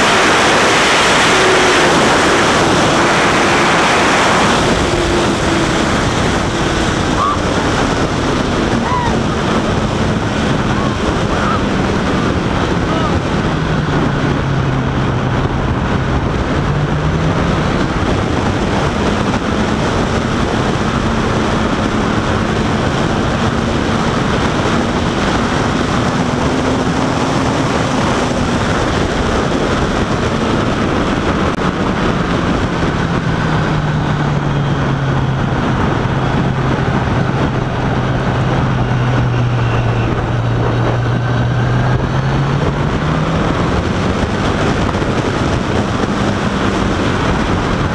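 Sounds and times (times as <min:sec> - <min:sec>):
motorcycle engine running: 0:00.0 - 0:47.9
road noise: 0:00.0 - 0:47.9
wind noise on microphone: 0:00.0 - 0:47.9.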